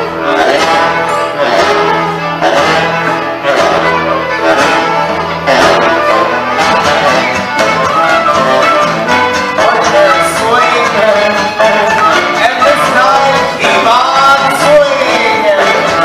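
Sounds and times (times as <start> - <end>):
fiddle melody: 0.0 - 16.0
folk dance band playing: 0.0 - 16.0.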